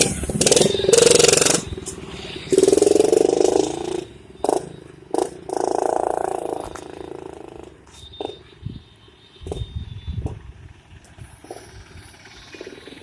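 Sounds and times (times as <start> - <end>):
motorcycle engine revving: 0.0 - 8.5, 10.9 - 13.0.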